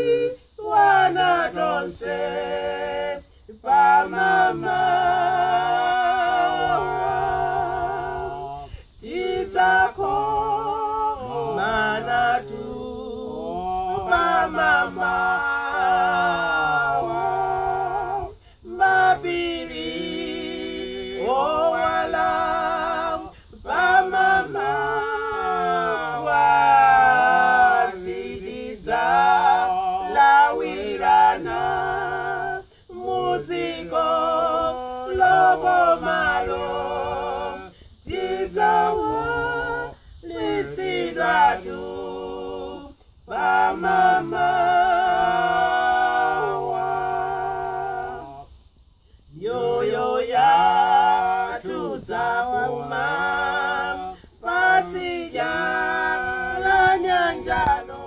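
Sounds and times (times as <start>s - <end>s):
people singing a hymn in harmony: 0.0s - 58.0s.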